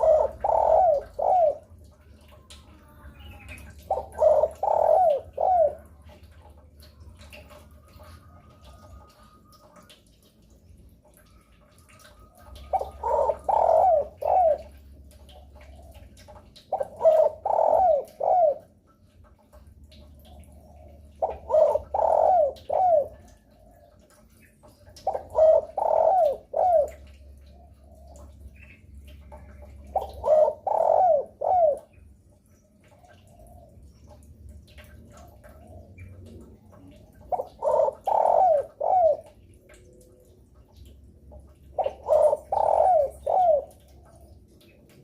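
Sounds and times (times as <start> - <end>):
dove cooing: 0.0 - 2.4, 3.4 - 9.9, 11.6 - 19.5, 20.2 - 24.2, 24.8 - 32.0, 34.7 - 40.7, 41.4 - 44.4.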